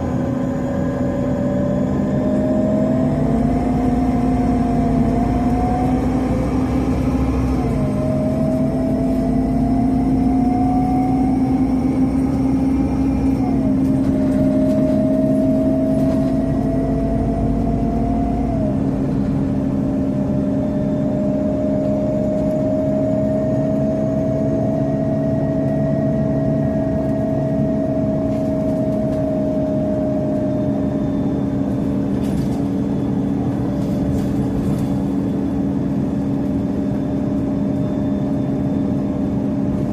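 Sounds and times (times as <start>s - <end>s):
bus drivetrain whine: 0.0s - 39.9s
bus engine drone: 0.0s - 39.9s.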